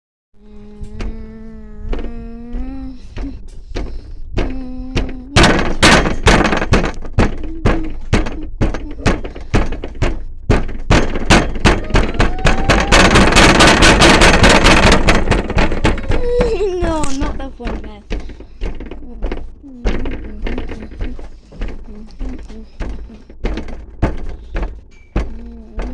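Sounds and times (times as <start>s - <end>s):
washing machine knocking: 0.4s - 25.9s
washing machine motor whine: 0.4s - 25.9s.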